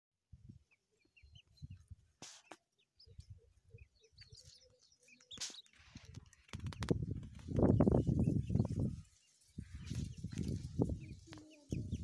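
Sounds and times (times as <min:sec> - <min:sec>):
partridges chirping: 0:00.6 - 0:12.0.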